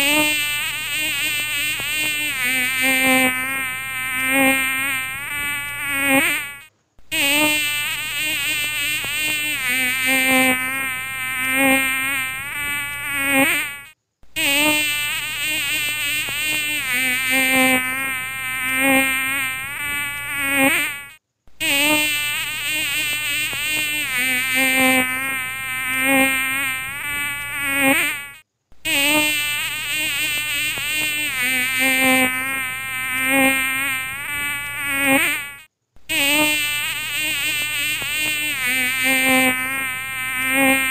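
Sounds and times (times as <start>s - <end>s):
mosquito buzzing: 0.0s - 40.9s.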